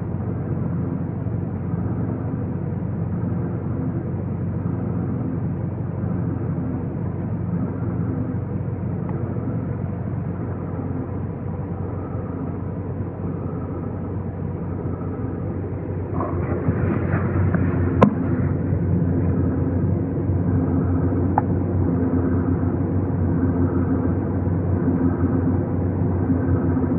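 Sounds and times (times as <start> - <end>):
car engine grinding drone: 0.0 - 26.9.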